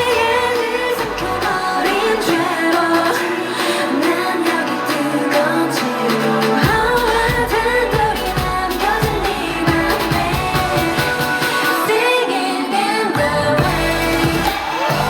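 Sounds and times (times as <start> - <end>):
pop backing track with bass beat: 0.0 - 12.3, 13.2 - 15.0
woman singing: 0.0 - 15.0.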